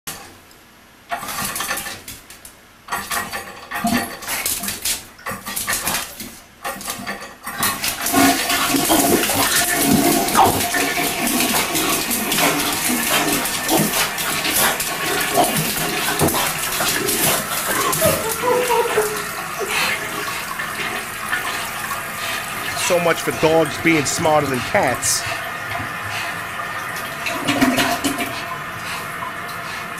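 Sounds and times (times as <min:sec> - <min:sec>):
toilet flushing: 0:01.1 - 0:02.2, 0:02.9 - 0:29.9.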